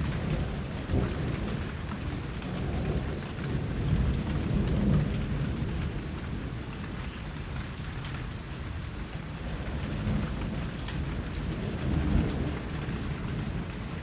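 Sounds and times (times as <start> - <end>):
low rain rumble: 0.0 - 14.0
rain drops pattering: 0.0 - 14.0.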